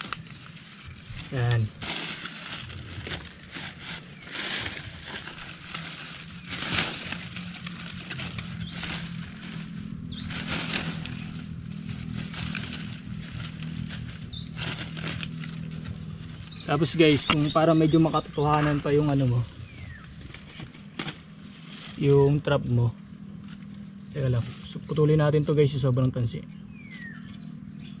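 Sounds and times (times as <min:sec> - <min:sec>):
hands crackling dry leaves: 0:00.0 - 0:27.3
steady low hum: 0:00.0 - 0:28.0.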